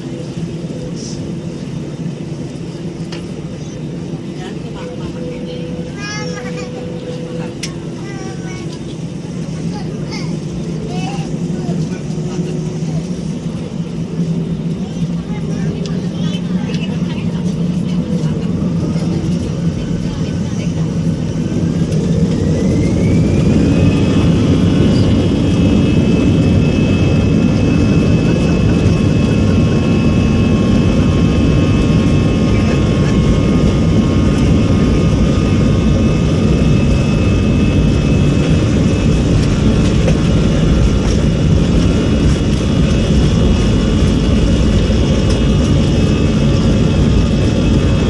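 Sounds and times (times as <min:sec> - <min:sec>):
jet engine whine: 0:00.0 - 0:48.0
takeoff roll rumble: 0:00.0 - 0:48.0.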